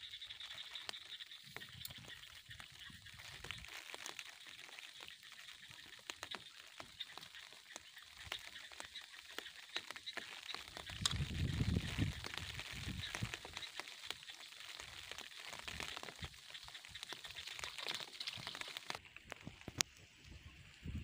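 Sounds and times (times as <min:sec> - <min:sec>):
leafy plants rustling: 0:00.0 - 0:19.7.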